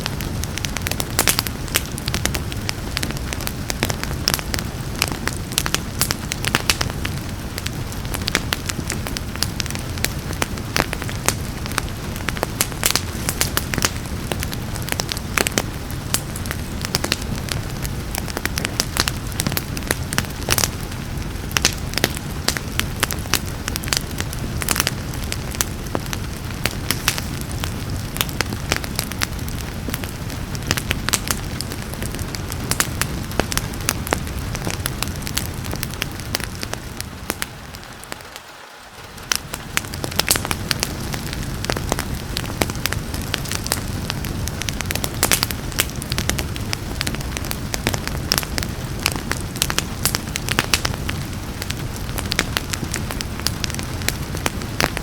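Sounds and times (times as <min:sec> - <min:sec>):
rain hissing: 0:00.0 - 0:55.0
wood fire crackling and popping: 0:00.0 - 0:55.0.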